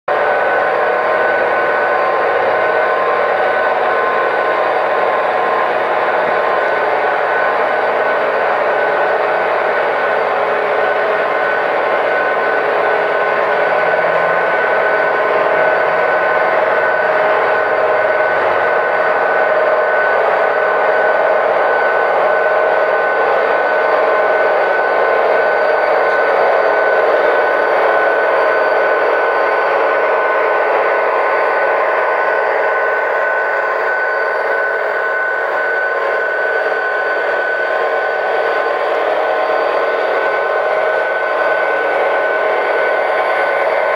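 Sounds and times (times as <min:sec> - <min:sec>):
high even whine: 0:00.1 - 0:43.9
model locomotive diesel engine drone: 0:00.1 - 0:43.9.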